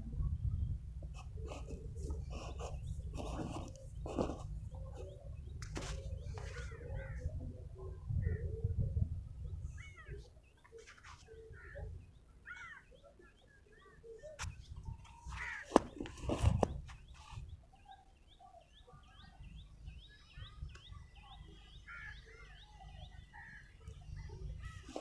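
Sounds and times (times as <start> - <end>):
birds chirping: 0.3 - 25.0.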